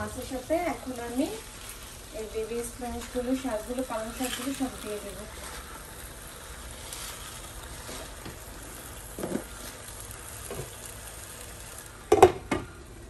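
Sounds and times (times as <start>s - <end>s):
curry sizzling in a frying pan: 0.0s - 13.0s.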